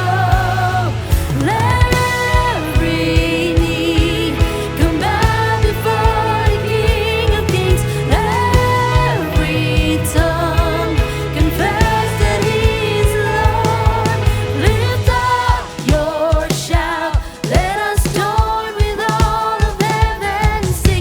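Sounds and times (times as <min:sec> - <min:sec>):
bass: 0:00.0 - 0:18.4, 0:19.8 - 0:21.0
singers holding long notes: 0:00.0 - 0:21.0
steady drum beat: 0:00.0 - 0:21.0.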